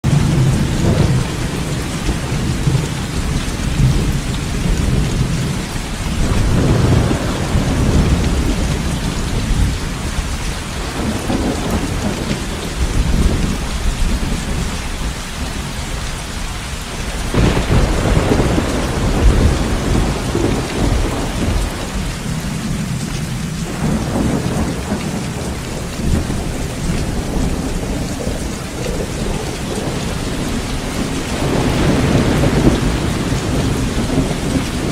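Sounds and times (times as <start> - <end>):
heavy rain falling: 0.0 - 34.9
rolling thunder: 0.0 - 34.9.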